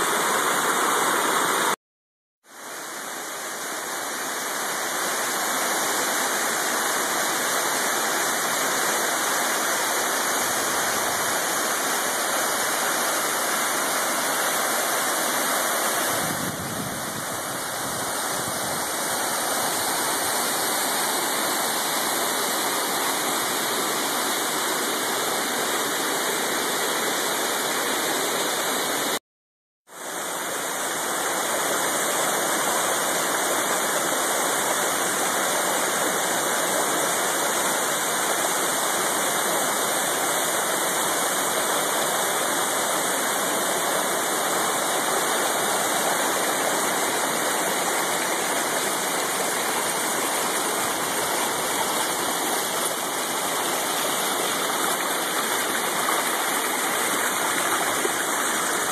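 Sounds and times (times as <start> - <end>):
waterfall rushing: 0.0 - 1.8, 2.6 - 29.2, 30.0 - 58.9.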